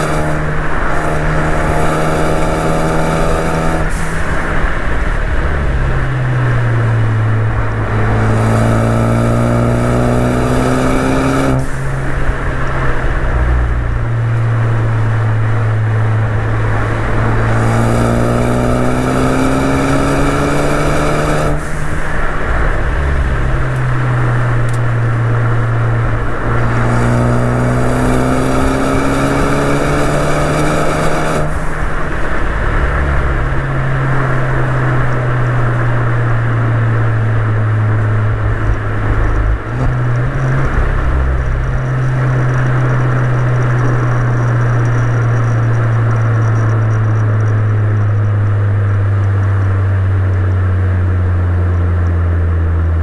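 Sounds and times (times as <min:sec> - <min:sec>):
car engine accelerating: 0:00.0 - 0:53.0
road and wind noise: 0:00.0 - 0:53.0
steady engine drone: 0:00.0 - 0:53.0.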